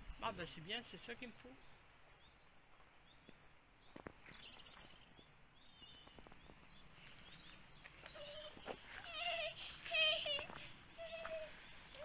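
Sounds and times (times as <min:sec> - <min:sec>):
faint bird chirps: 0:01.3 - 0:12.0.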